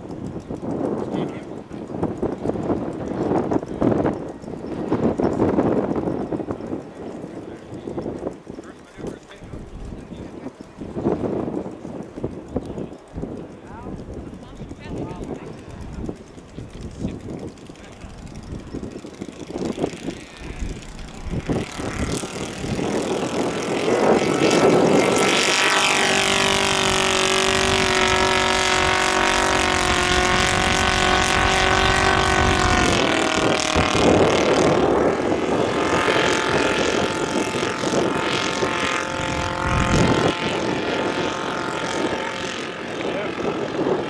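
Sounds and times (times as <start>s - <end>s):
model aircraft engine running: 0.0s - 44.0s.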